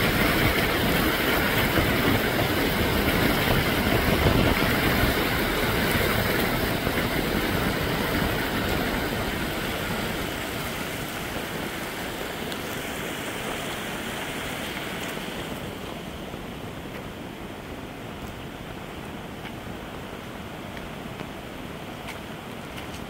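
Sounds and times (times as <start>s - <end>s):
floodwater rushing down a channel: 0.0s - 23.0s.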